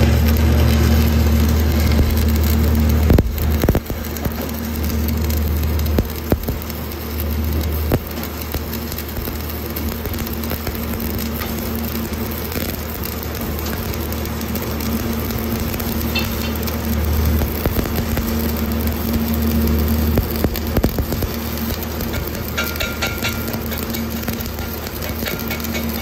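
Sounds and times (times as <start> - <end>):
steady low hum: 0.0 - 26.0
welding arc crackling: 0.0 - 26.0.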